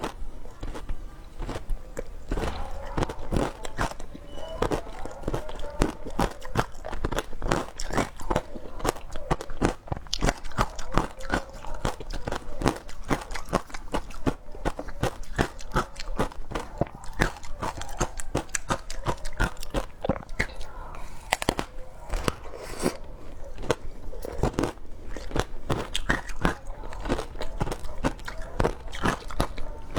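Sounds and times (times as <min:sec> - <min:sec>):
ice crunching between teeth: 0:00.0 - 0:29.9.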